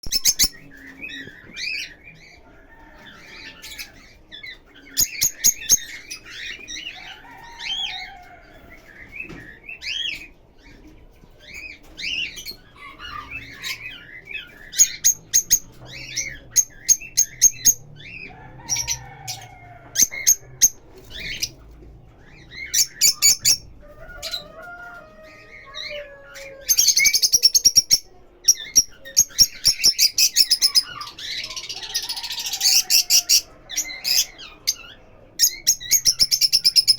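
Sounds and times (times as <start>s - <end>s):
lovebirds chirping and chattering: 0.0s - 36.9s.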